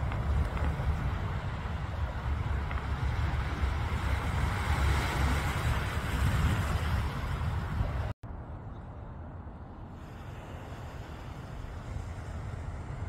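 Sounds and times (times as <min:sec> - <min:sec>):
waves washing on beach: 0:00.0 - 0:08.1, 0:09.9 - 0:13.0
wind buffeting microphone: 0:00.0 - 0:13.0.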